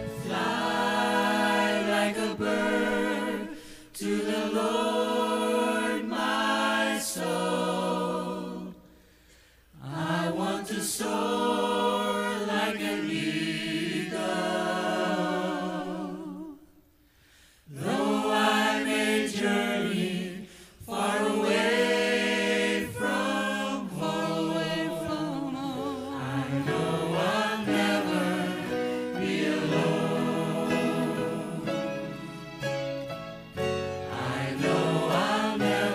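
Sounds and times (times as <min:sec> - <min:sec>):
vocal ensemble singing gospel: 0:00.0 - 0:35.9.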